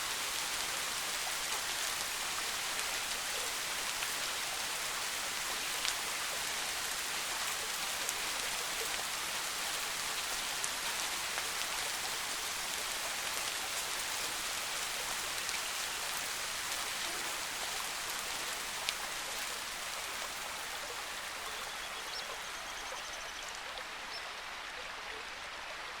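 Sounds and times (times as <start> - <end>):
soft rain falling: 0.0 - 26.0.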